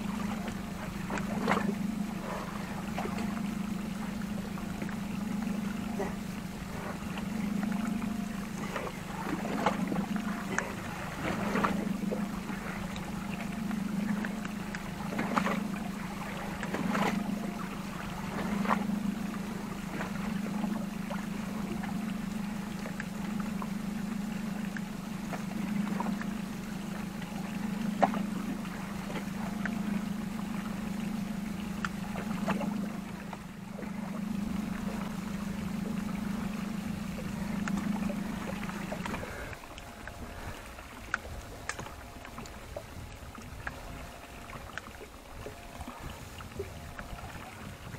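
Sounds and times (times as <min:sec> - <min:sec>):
low hum: 0:00.0 - 0:47.9
water lapping at boat hull: 0:00.0 - 0:47.9.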